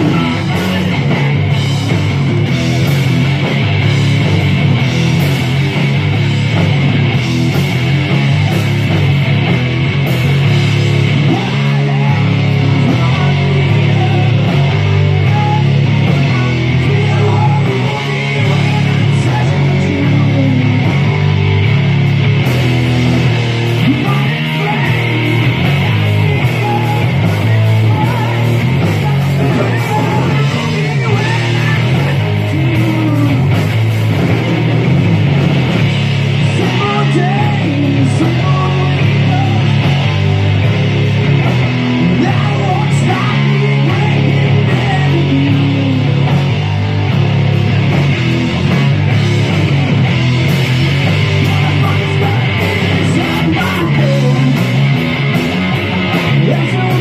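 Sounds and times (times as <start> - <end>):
heavy bass line: 0.0 - 57.0
rock band playing live: 0.0 - 57.0.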